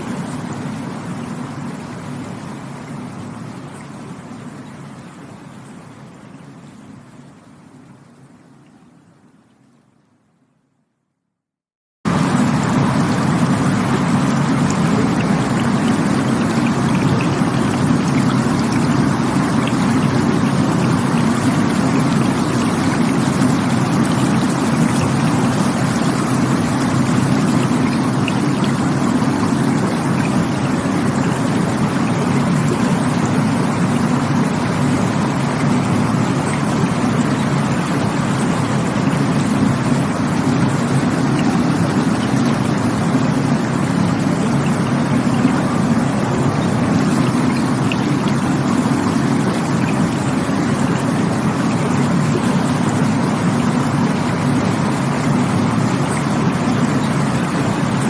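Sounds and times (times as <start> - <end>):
rushing water: 0.0 - 10.5, 12.1 - 58.0.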